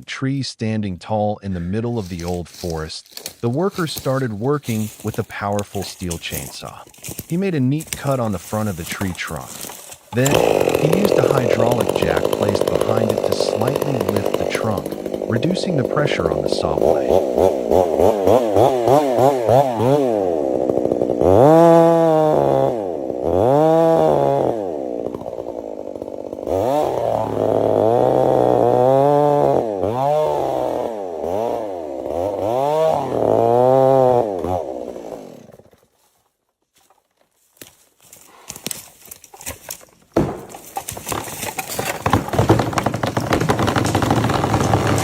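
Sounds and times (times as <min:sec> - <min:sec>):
chainsaw cutting tree trunk: 0:02.1 - 0:36.0, 0:37.6 - 0:45.0.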